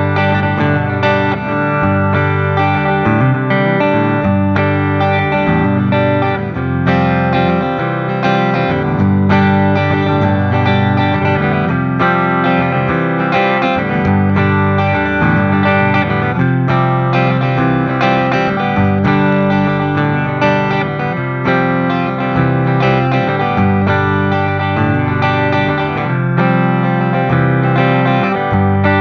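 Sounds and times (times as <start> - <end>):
distorted electric guitar riff: 0.0 - 29.0.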